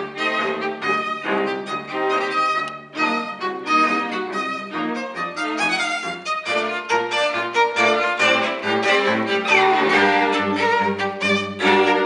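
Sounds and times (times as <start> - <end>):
violin and cello playing: 0.0 - 12.0.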